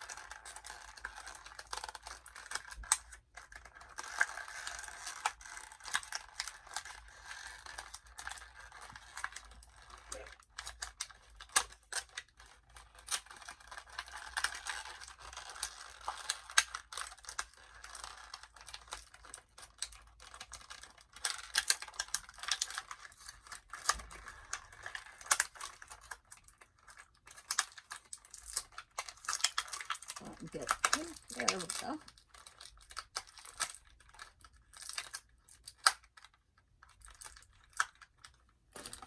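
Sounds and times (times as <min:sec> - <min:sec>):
plastic packaging crinkling: 0:00.0 - 0:39.0.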